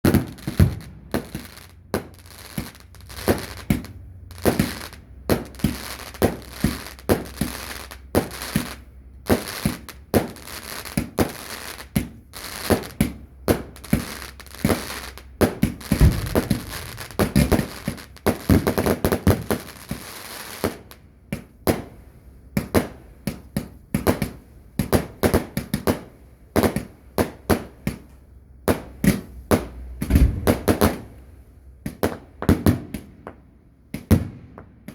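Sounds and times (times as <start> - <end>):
fireworks banging: 0.0 - 31.2, 31.8 - 34.9.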